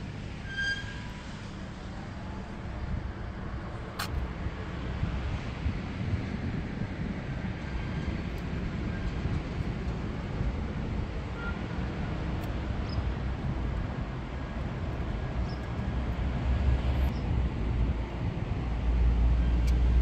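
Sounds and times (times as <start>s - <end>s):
outdoor background noise: 0.0s - 20.0s
wind rumbling on microphone: 1.3s - 20.0s.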